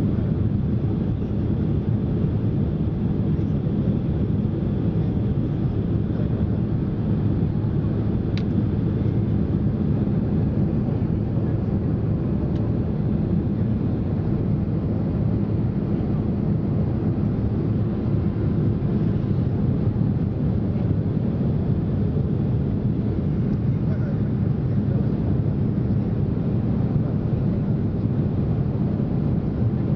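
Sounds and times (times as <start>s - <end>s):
airplane cabin engine rush: 0.0s - 29.9s.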